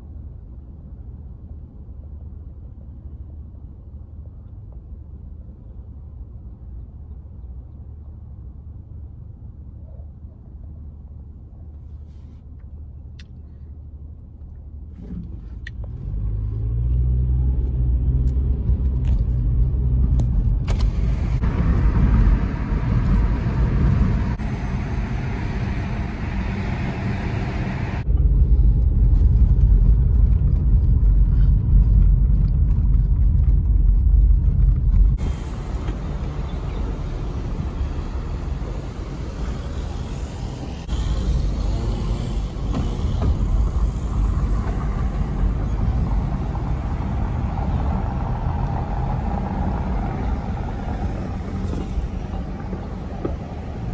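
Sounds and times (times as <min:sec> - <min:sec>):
car road noise rumble: 0:00.0 - 0:53.9.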